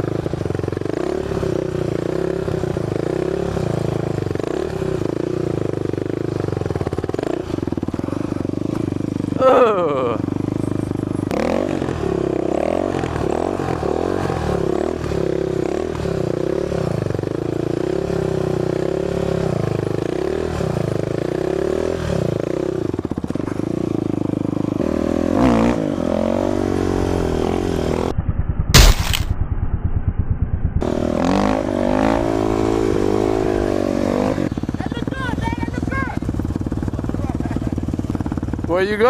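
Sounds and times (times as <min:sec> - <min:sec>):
dirt bike engine revving: 0:00.0 - 0:10.2, 0:11.2 - 0:28.1, 0:28.8 - 0:39.0.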